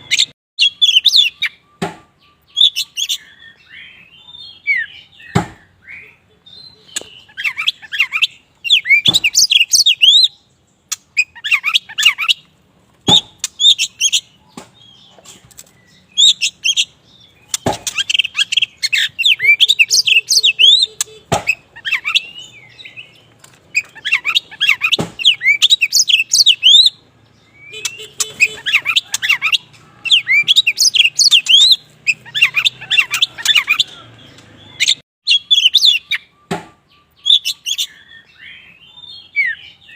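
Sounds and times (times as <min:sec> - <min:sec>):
bird singing whistled phrases: 0:00.0 - 0:10.4, 0:15.9 - 0:23.2, 0:23.8 - 0:34.0, 0:34.7 - 0:39.9.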